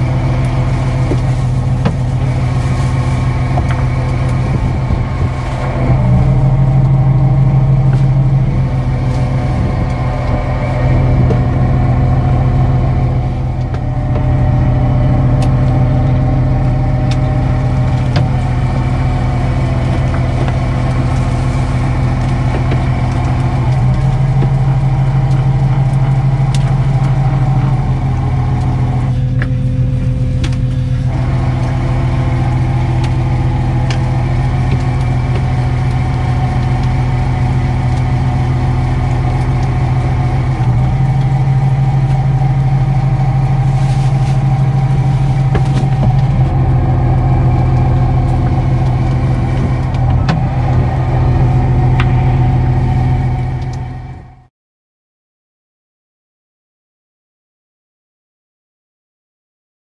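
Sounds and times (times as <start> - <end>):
boat engine humming: 0.0 - 54.5.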